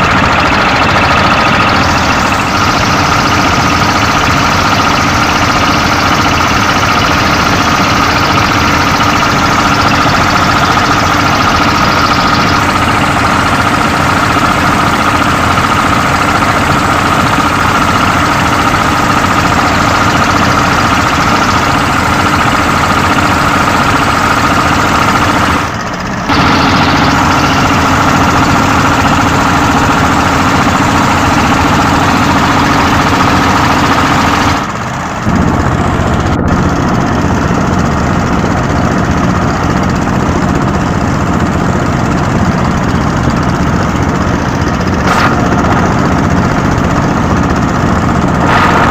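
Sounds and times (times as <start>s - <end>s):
rushing noise: 0.0s - 41.9s, 43.4s - 48.9s
boat engine running: 0.0s - 48.9s.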